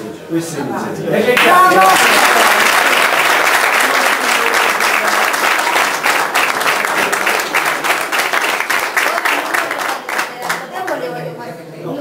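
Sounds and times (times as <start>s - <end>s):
people clapping: 1.3s - 11.1s.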